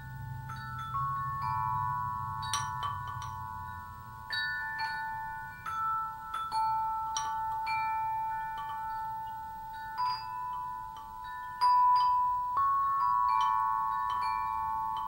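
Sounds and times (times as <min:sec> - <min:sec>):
glockenspiel chime music: 0:00.0 - 0:15.0.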